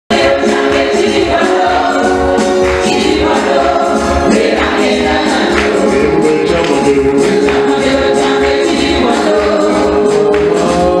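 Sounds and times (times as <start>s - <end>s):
drum beat: 0.1s - 11.0s
gospel choir singing: 0.1s - 11.0s.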